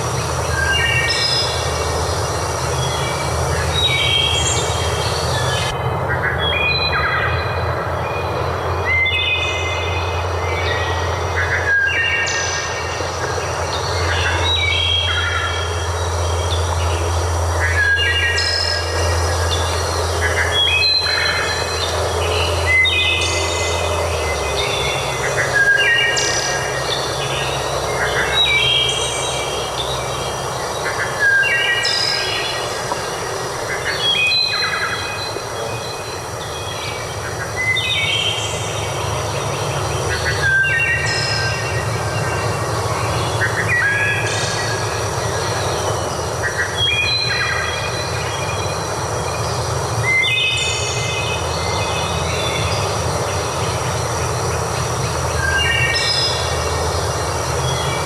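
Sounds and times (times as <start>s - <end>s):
steady rushing background noise: 0.0s - 58.0s
songbird whistling song: 6.4s - 53.2s.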